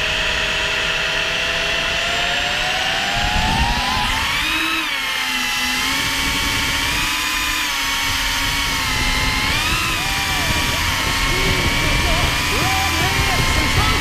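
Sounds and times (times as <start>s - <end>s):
drone motors and propellers whining: 0.0s - 14.0s.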